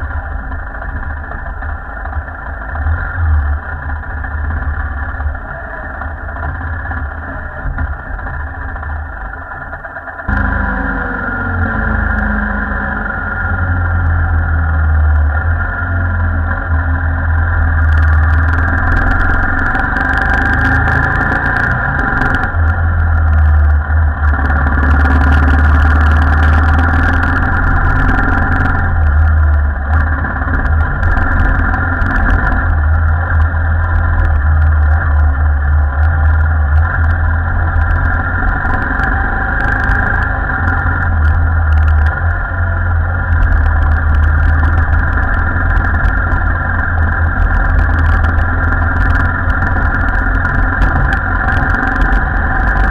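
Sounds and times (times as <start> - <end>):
clicks and rattles on rough track: 0.0 - 52.9
motorcycle engine rumbling: 0.0 - 52.9.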